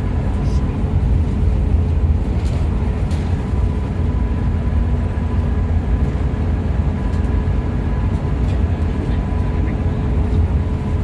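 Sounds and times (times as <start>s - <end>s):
coach engine and road rumble: 0.0s - 11.0s.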